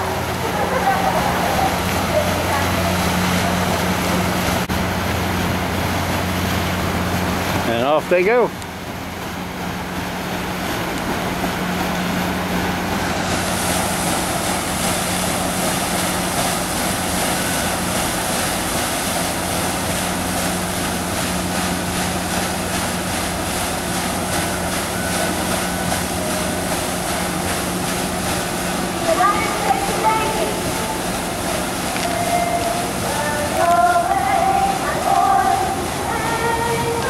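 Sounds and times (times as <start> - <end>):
boat engine humming: 0.0 - 37.0
water noise: 0.0 - 37.0
wind: 0.0 - 37.0.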